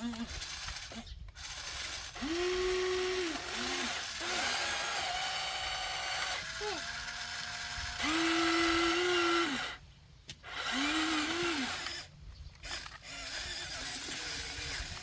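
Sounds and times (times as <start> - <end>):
small electric motors whining: 0.0 - 9.8, 10.4 - 15.0.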